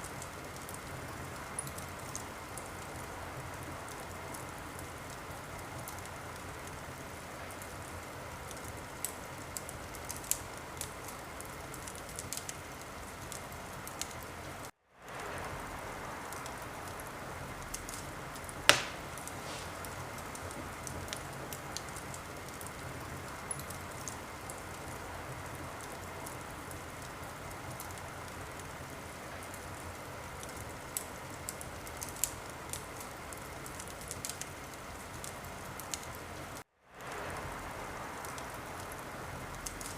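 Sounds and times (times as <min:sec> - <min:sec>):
wood fire crackling and popping: 0:00.0 - 0:37.2, 0:38.2 - 0:39.9.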